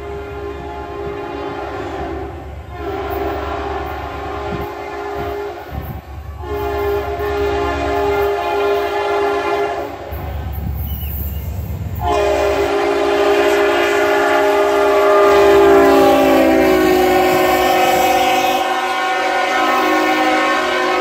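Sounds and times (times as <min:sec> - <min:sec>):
locomotive horn blasts: 0:00.0 - 0:10.2, 0:12.0 - 0:21.0.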